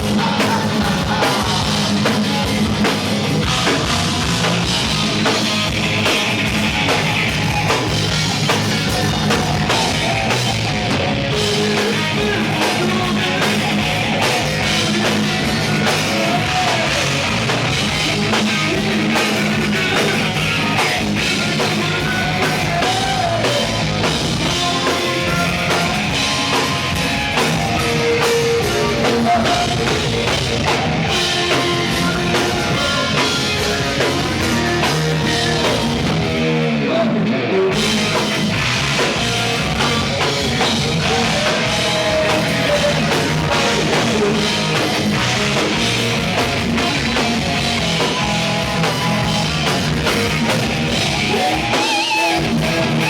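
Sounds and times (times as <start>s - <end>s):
drum kit with cymbals: 0.0s - 36.6s, 37.7s - 53.0s
bass guitar: 0.0s - 53.0s
distorted electric guitar: 0.0s - 53.0s.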